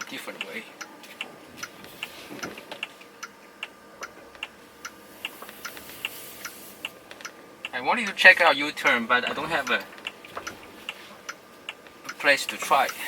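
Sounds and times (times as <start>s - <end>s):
turn-signal indicator ticking: 0.0s - 13.0s.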